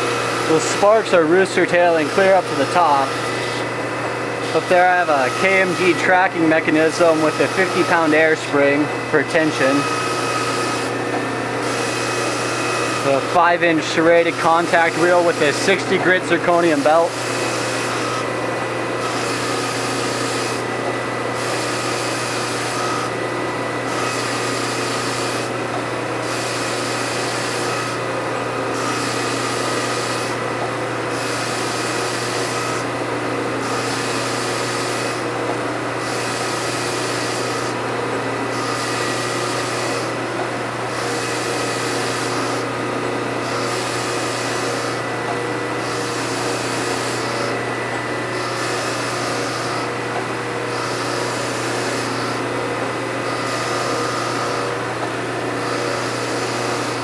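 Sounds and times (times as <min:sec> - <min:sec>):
belt grinder grinding steel: 0:00.0 - 0:57.0
motor hum: 0:00.0 - 0:57.0.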